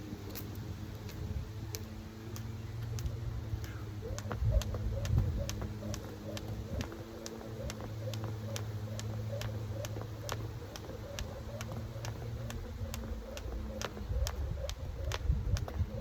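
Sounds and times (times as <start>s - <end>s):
low hum: 0.0s - 16.0s
jump rope slapping the ground: 0.3s - 16.0s.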